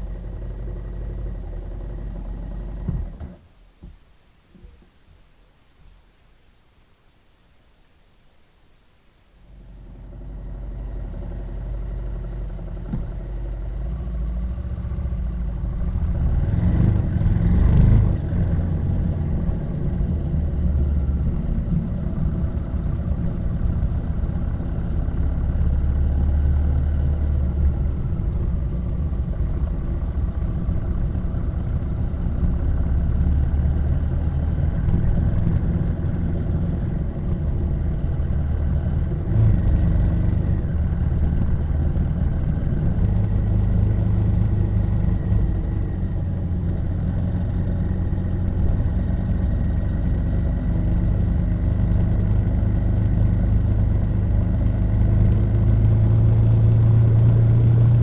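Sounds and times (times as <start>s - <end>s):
vehicle engine running: 0.0s - 3.4s, 9.6s - 58.0s
low road rumble: 0.0s - 7.3s, 8.6s - 58.0s.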